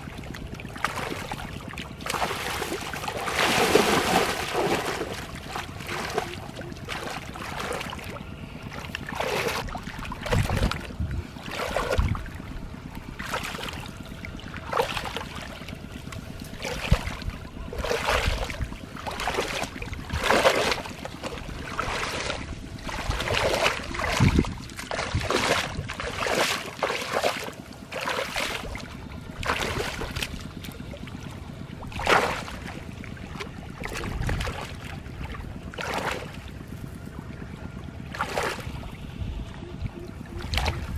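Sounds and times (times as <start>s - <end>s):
muddy water splashing: 0.0s - 40.9s.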